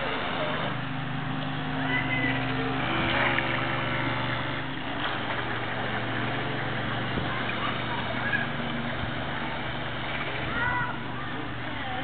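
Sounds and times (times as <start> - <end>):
boat motor hum: 0.0 - 12.0
water wash: 0.0 - 12.0.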